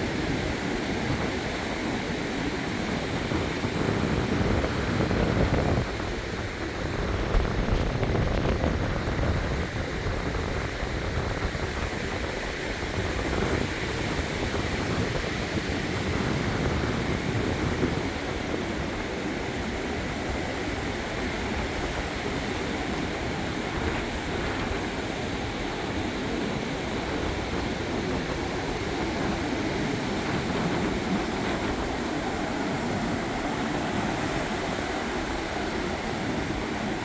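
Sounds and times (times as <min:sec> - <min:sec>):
waves washing onto beach: 0:00.0 - 0:37.0.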